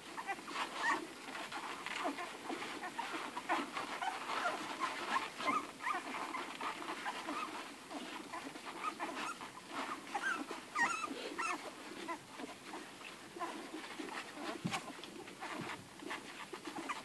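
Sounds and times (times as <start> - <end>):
puppies nursing clicks: 0.0 - 17.0
puppies squeaking and whimpering: 0.0 - 17.0.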